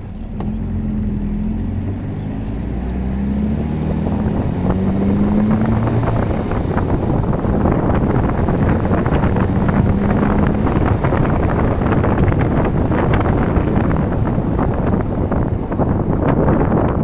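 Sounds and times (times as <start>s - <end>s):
car engine and tyre noise: 0.0s - 17.0s
wind buffeting microphone: 0.0s - 17.0s.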